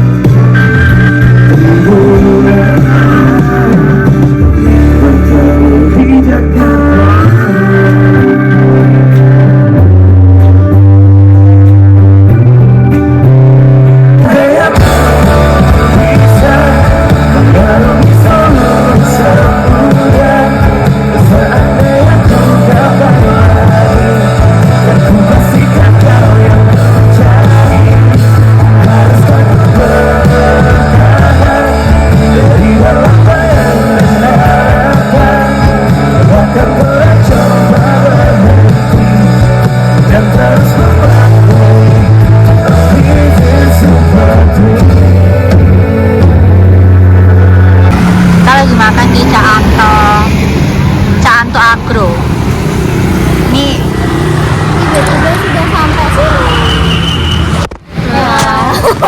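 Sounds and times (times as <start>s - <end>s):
person singing: 0.0s - 11.3s, 14.1s - 50.4s, 58.0s - 59.0s
electric guitar: 0.0s - 56.6s, 57.4s - 59.0s
bass guitar: 0.0s - 59.0s
drums: 0.0s - 59.0s.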